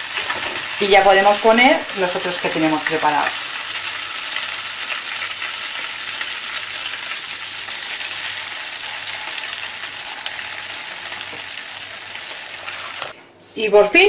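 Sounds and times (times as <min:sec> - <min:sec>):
chicken deep-frying in oil: 0:00.0 - 0:13.2.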